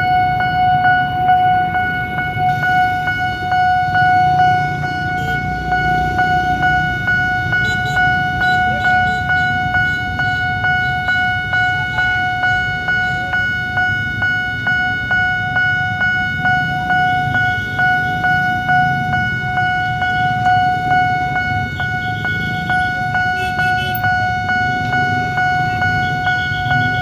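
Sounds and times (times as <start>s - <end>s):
level crossing bell ringing: 0.0s - 26.9s
idling traffic rumble: 0.0s - 27.0s.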